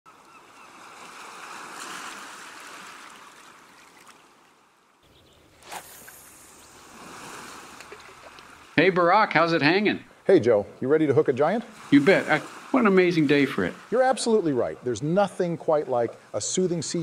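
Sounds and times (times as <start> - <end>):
small waves washing onto sand: 0.6 - 4.6, 5.5 - 9.9, 11.3 - 17.0.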